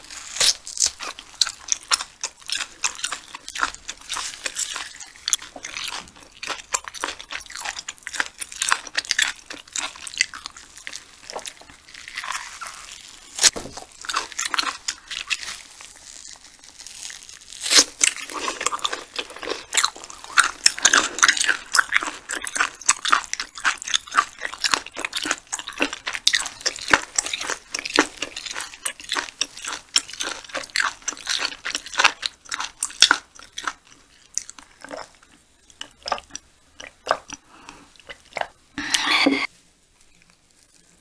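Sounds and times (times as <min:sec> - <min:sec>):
wet sticky chewing: 0:00.4 - 0:39.4.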